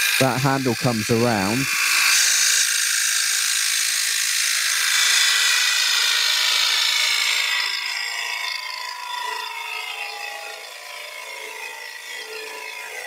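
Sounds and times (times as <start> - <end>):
gouge cutting wood on lathe: 0.0 - 13.0.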